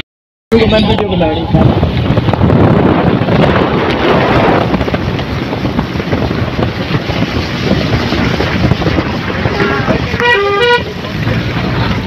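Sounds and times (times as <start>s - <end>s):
car road noise: 0.5s - 12.0s
wind buffeting microphone: 0.6s - 12.0s.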